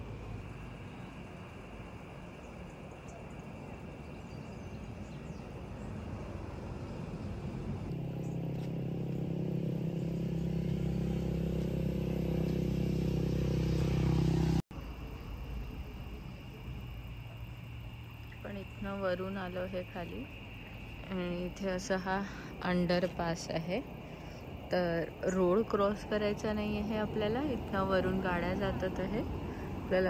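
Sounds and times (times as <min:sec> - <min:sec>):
vehicle engine humming: 0:00.0 - 0:00.6, 0:06.2 - 0:30.0
outdoor noise haze: 0:00.0 - 0:30.0.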